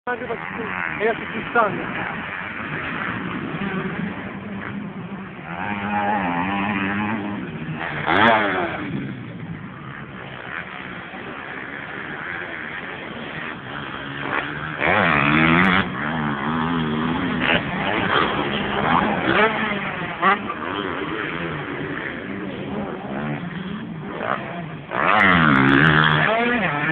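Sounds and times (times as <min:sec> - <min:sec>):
motocross bike engines revving: 0:00.1 - 0:26.9.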